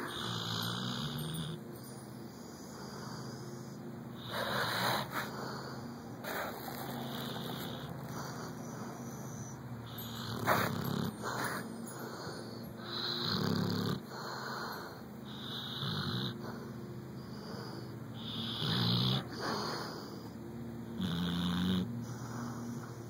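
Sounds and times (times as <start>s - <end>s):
dog snoring: 0.0s - 23.0s.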